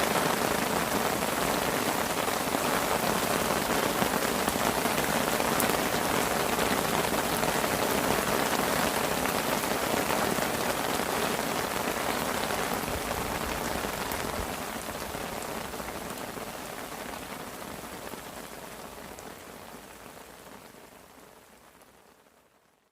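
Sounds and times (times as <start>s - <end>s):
heavy rain on a parasol: 0.0s - 22.6s.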